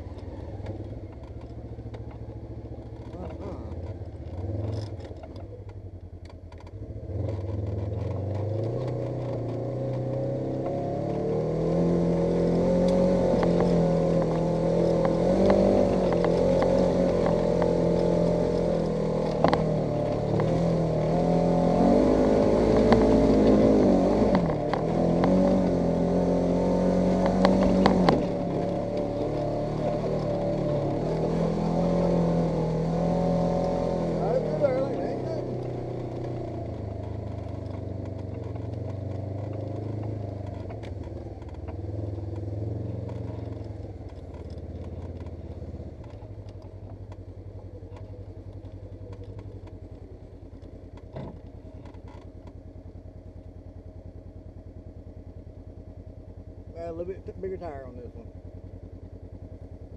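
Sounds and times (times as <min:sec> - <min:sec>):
engine accelerating: 0:00.0 - 0:52.6, 0:55.6 - 0:59.9.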